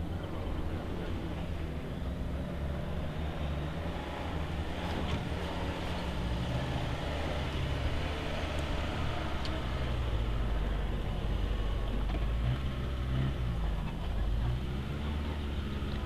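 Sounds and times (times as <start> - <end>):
off-road vehicle engine at low revs: 0.0 - 16.0.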